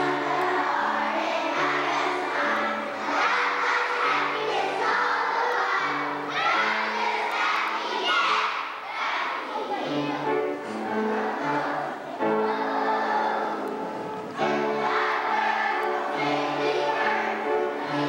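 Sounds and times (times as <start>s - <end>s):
instrumental accompaniment: 0.0s - 8.0s, 9.0s - 18.0s
children's choir singing: 0.0s - 18.0s.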